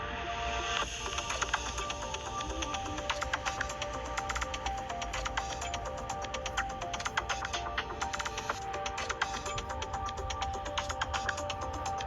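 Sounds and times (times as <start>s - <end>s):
held synth notes: 0.8s - 12.0s.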